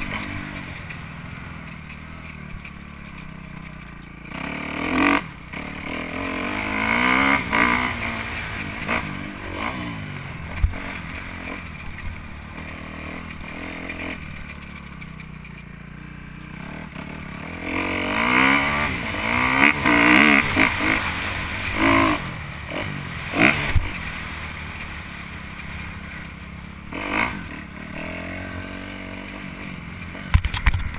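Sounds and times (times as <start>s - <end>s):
bike clattering over rough ground: 0.0s - 27.8s, 28.9s - 30.9s
dirt bike engine revving: 0.0s - 30.9s.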